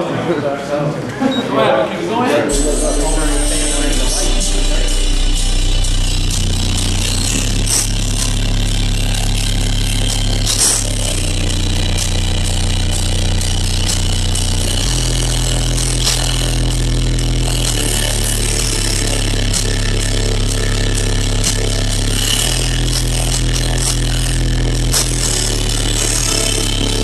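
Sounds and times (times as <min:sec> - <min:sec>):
distorted bass-heavy music: 0:02.5 - 0:27.0.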